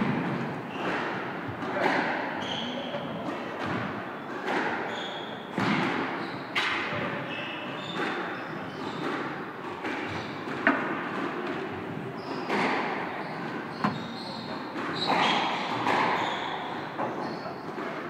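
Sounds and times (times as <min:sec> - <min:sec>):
squash ball hits echoing: 0:00.0 - 0:18.0
sneaker squeaks on wooden floor: 0:00.6 - 0:10.5, 0:12.1 - 0:17.9.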